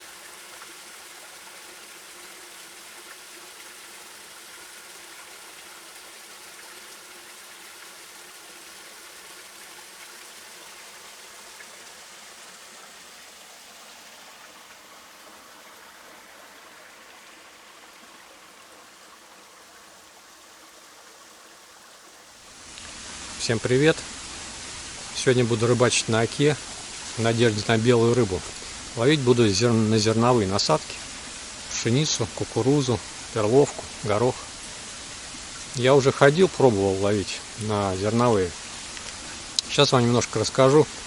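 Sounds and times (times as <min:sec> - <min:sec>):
flowing river water rushing: 0:00.0 - 0:41.0.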